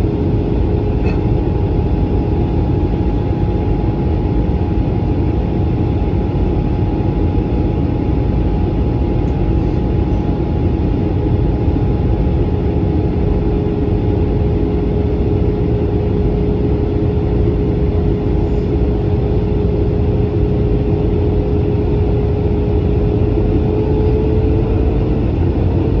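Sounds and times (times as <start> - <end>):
airflow and engine drone: 0.0 - 26.0.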